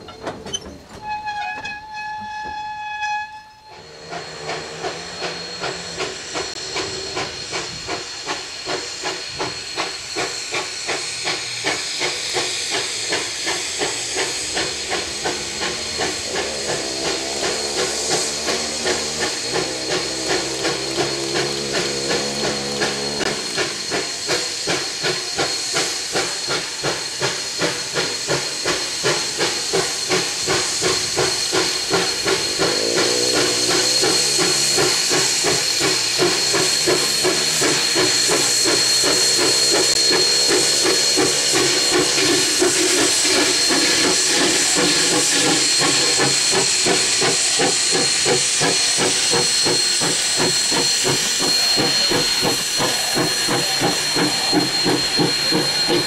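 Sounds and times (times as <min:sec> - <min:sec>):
steam locomotive exhaust chuffs: 0:03.5 - 0:56.0
steam hiss: 0:03.6 - 0:56.0.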